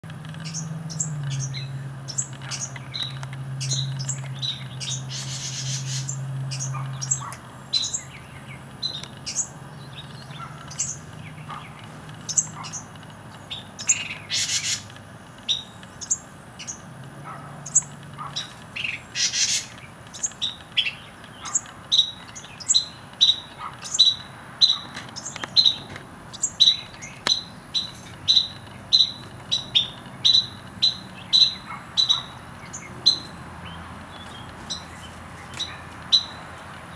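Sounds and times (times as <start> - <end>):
harsh bird calls: 0.0 - 36.9
bird fledglings chirping: 0.2 - 36.9.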